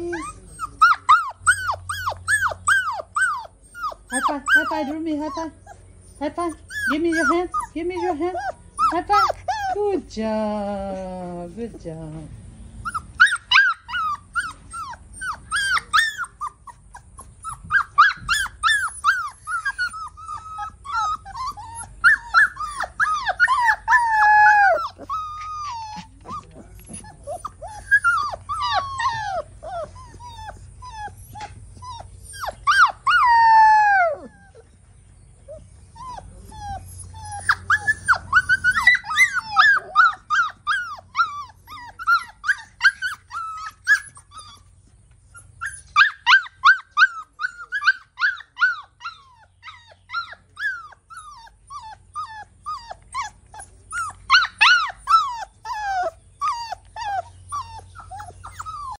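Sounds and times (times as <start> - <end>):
puppies whining and crying: 0.0 - 59.0.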